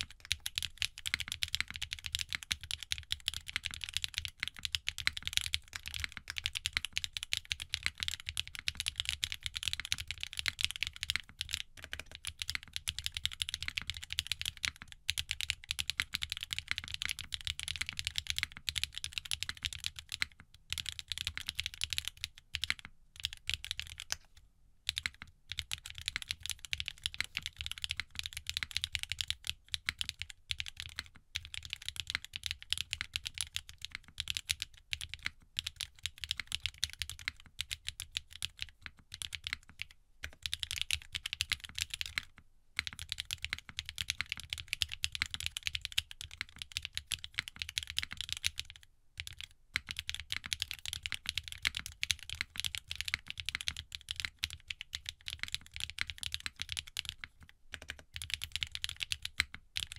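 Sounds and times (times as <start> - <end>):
fast mechanical keyboard typing: 0.0 - 24.2, 24.9 - 59.9.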